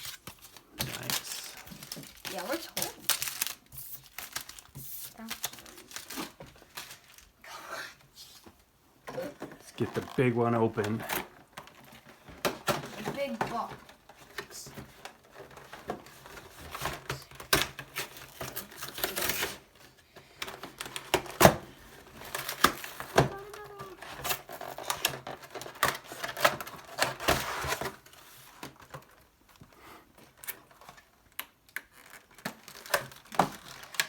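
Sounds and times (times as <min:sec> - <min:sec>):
cardboard and plastic crinkling: 0:00.0 - 0:07.4, 0:09.1 - 0:34.0.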